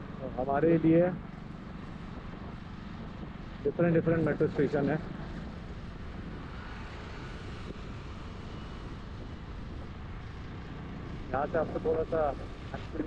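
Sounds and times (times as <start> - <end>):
traffic rumble and hiss: 0.0 - 13.0
vehicle moving on road: 0.0 - 13.0.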